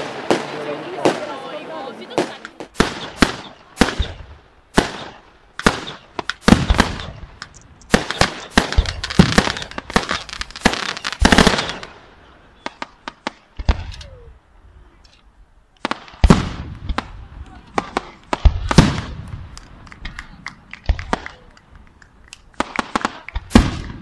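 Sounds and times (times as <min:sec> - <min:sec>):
fireworks bangs and crackles: 0:00.0 - 0:14.3, 0:15.8 - 0:24.0.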